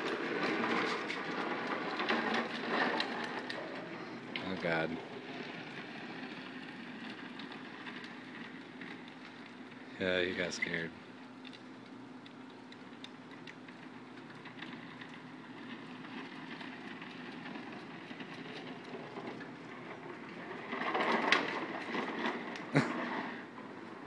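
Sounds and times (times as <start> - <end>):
toy truck wheels rolling: 0.0 - 24.0.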